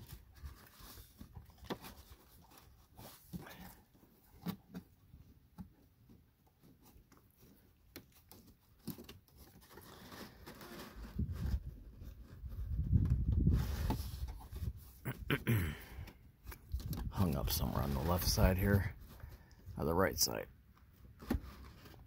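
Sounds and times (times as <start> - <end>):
paper filter rustling and scraping: 0.0 - 15.2, 16.6 - 22.0.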